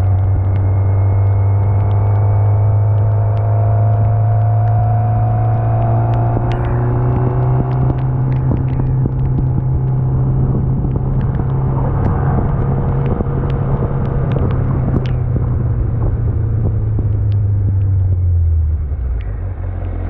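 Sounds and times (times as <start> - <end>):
light ticks: 0.0 - 20.0
motorcycle engine running: 0.0 - 20.0.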